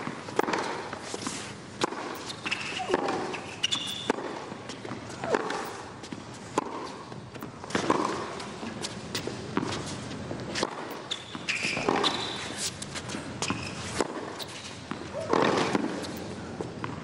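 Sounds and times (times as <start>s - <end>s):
racket hitting tennis ball: 0.0s - 17.0s
tennis ball bouncing: 0.0s - 17.0s.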